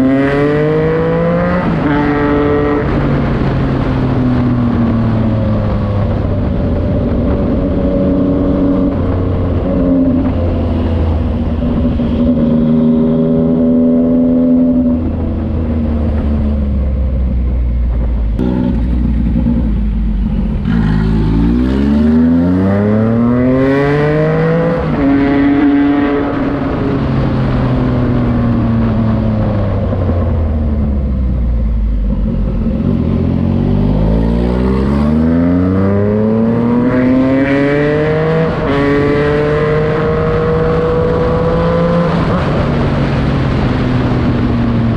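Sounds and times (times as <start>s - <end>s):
motorcycle engine revving: 0.0s - 17.1s, 18.3s - 44.9s.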